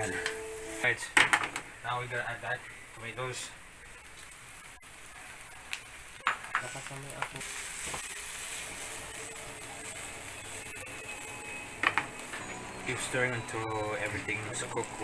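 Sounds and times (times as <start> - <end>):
tomatoes sizzling in frying pan: 0.0 - 15.0.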